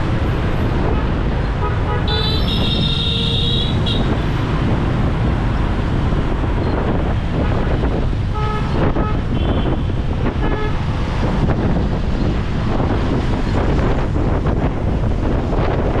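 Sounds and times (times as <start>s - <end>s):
city traffic noise: 0.0s - 16.0s
wind buffeting microphone: 0.0s - 16.0s.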